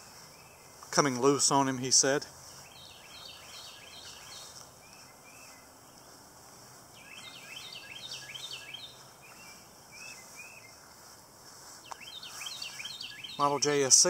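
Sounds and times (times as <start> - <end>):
faint outdoor hiss: 0.0 - 14.0
small birds chirping: 0.0 - 14.0.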